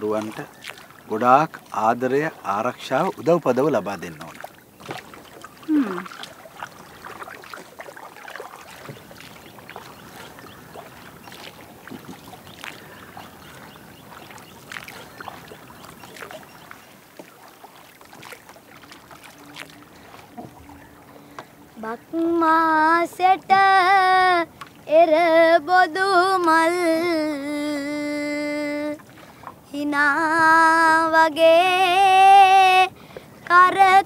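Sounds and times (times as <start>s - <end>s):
water lapping around boat: 0.0s - 34.0s.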